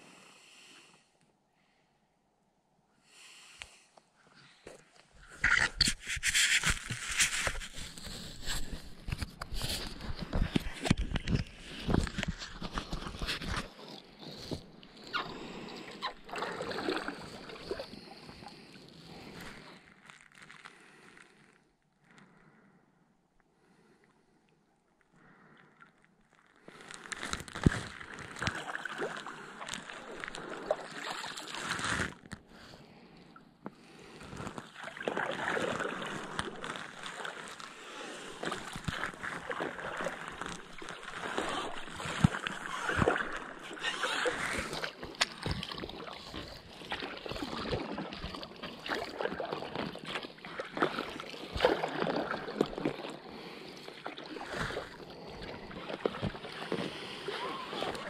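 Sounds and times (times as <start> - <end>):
kayak paddle pulling through water: 5.2 - 20.6, 26.9 - 58.0.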